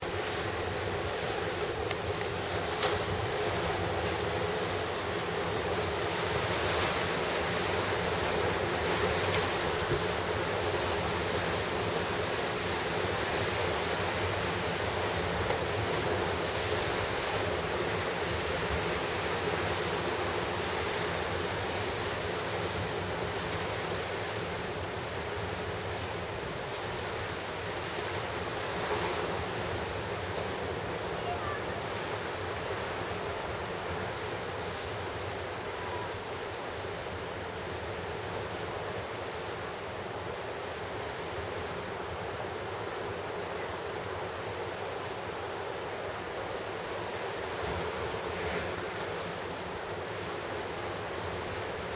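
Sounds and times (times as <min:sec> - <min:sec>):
ocean waves roaring: 0:00.0 - 0:51.9
surf breaking on rocky shore: 0:00.0 - 0:51.9.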